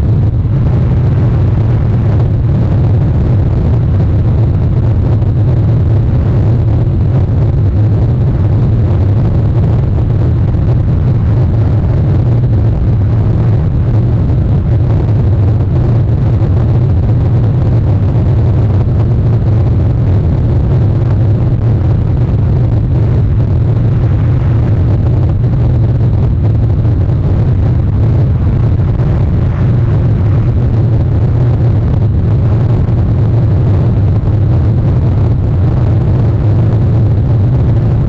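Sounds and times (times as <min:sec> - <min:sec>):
wind rumble and hiss: 0:00.0 - 0:38.0.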